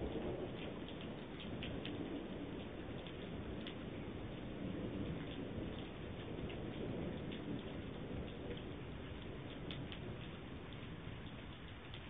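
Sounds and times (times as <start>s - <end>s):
faint drip ticks: 0.0s - 12.0s
muffled steady rain: 0.0s - 12.0s.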